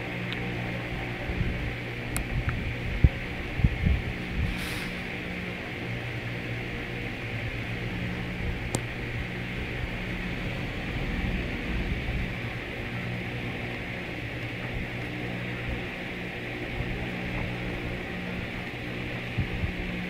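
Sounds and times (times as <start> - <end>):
electrical hum with hiss: 0.0 - 20.0.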